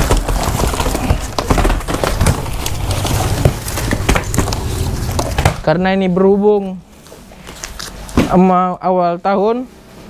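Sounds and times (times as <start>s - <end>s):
plastic sack and cardboard rustling: 0.0s - 8.6s.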